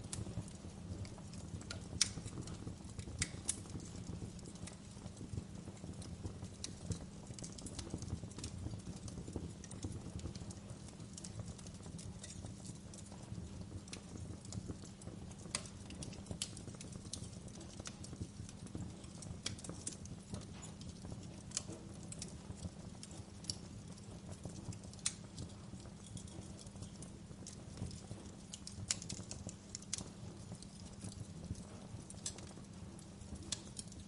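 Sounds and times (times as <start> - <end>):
fire crackling in a fireplace: 0.0 - 34.0.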